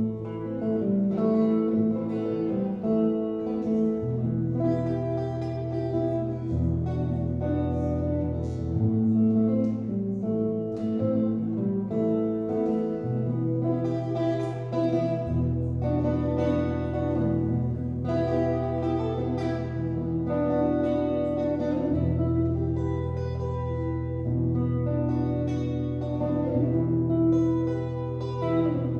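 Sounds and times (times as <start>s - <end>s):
electric guitar playing: 0.0s - 28.9s.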